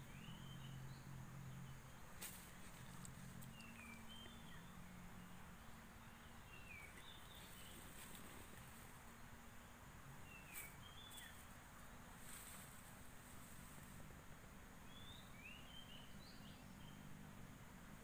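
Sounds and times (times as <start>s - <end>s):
faint bird chirps: 0.0s - 12.6s, 14.8s - 17.2s.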